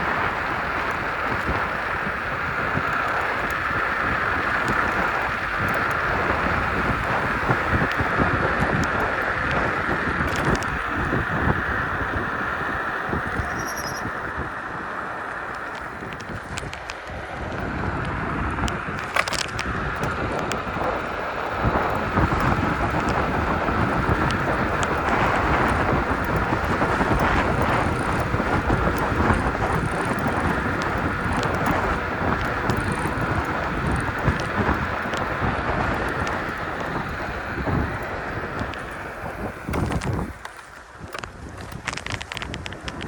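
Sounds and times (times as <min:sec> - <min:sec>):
electric scooter road noise: 0:00.0 - 0:43.0
wind buffeting microphone: 0:00.0 - 0:43.0
small clicks and rattles: 0:02.6 - 0:11.2, 0:15.2 - 0:43.0.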